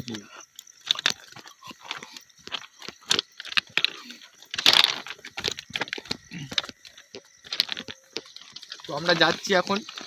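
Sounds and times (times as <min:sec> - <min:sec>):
footsteps crunching on gravel: 0:00.9 - 0:10.0.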